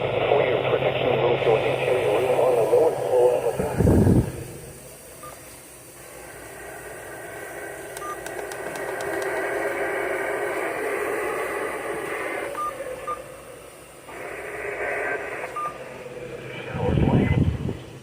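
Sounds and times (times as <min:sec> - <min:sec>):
narrow-band radio static hiss: 0:00.0 - 0:18.0.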